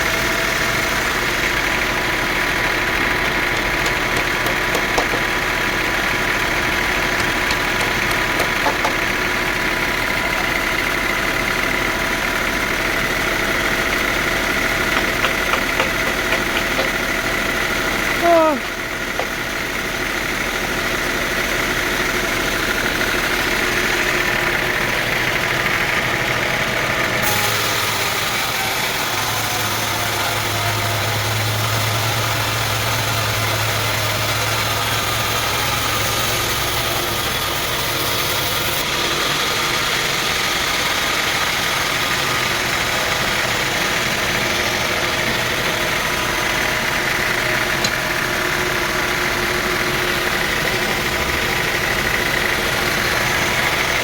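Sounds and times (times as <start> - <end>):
deep mechanical hum: 0.0 - 54.0
sawmill machinery engine drone: 0.0 - 54.0.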